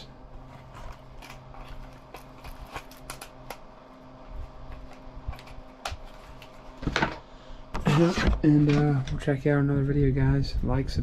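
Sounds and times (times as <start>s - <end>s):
desk fan humming: 0.0s - 11.0s
fan air whoosh: 0.0s - 11.0s.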